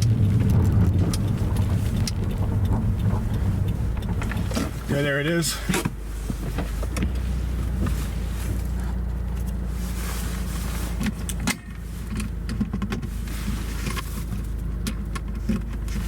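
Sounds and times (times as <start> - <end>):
small clicks and rattles: 0.0 - 9.6, 10.9 - 16.0
car engine hum inside cabin: 0.0 - 16.0.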